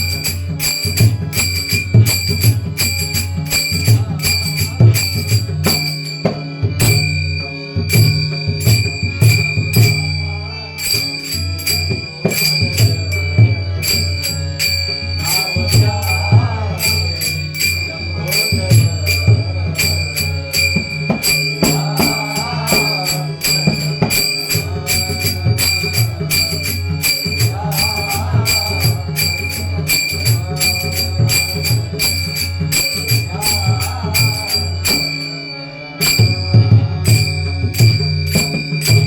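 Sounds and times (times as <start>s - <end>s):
hand cymbals clashing: 0.0s - 10.2s, 10.8s - 39.0s.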